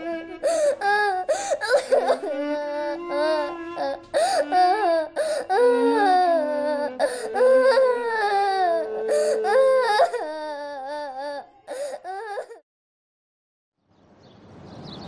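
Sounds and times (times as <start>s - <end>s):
boy crying: 0.0s - 12.6s.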